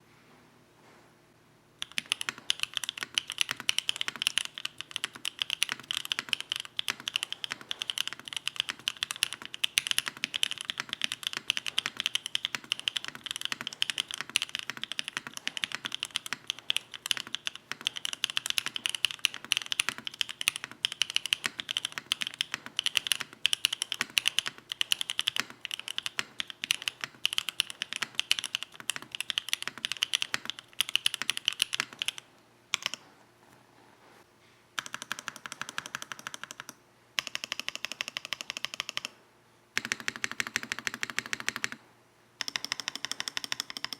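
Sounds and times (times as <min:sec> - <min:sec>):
fast typing on mechanical keyboard: 0:01.8 - 0:33.0, 0:34.8 - 0:39.1, 0:39.8 - 0:41.8, 0:42.4 - 0:43.9.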